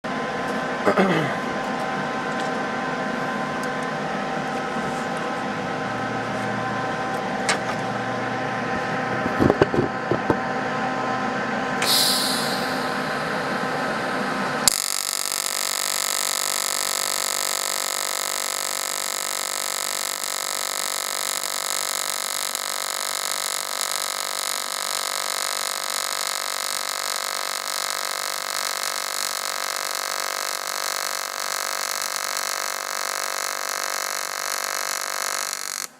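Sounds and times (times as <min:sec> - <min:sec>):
welding arc buzzing: 0:00.0 - 0:10.4, 0:11.8 - 0:35.9.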